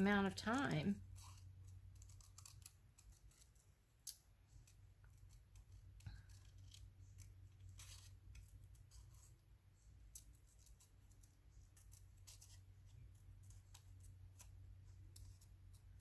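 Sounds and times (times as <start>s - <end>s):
scissors cutting paper: 0.0s - 16.0s.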